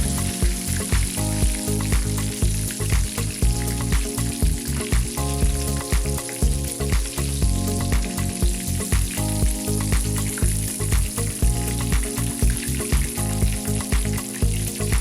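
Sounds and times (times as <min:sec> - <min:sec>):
background music with steady beat: 0:00.0 - 0:15.0
meat frying with steady sizzle: 0:00.0 - 0:15.0.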